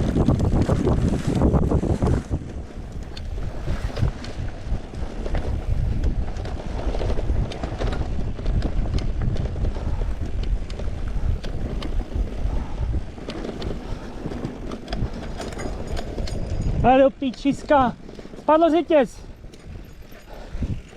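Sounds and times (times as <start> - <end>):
bike clicks and rattles: 0.0 - 20.9
bike rumbling over rough ground: 0.0 - 20.9
wind buffeting microphone: 0.0 - 20.9.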